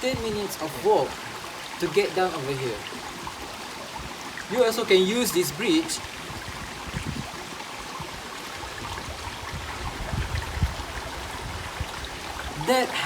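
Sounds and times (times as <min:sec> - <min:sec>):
river water flowing over rocks: 0:00.0 - 0:13.0.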